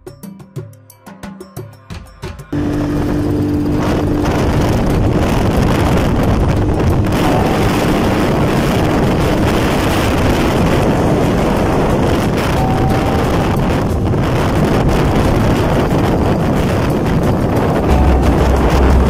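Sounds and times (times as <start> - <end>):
motorcycle engine hum: 2.5 - 19.0
wind rushing on microphone: 2.5 - 19.0.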